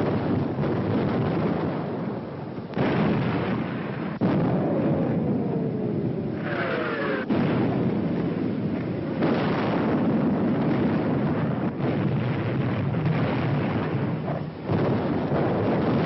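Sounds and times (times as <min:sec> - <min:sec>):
rumble of shellfire: 0:00.0 - 0:16.0
shell explosions: 0:00.0 - 0:16.0.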